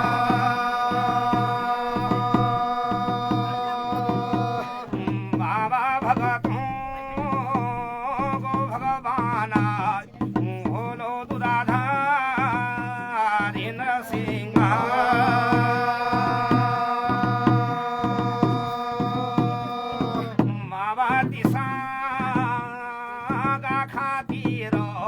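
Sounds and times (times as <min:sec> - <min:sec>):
drum beat: 0:00.0 - 0:25.0
man singing: 0:00.0 - 0:25.0.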